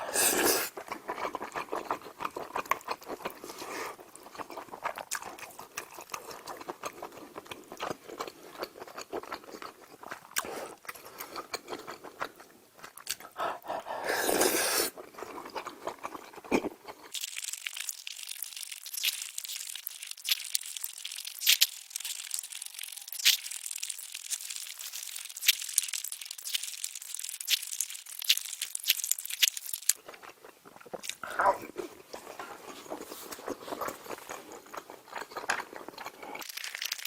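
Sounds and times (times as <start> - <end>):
chewing and crunching: 0.0 - 37.0.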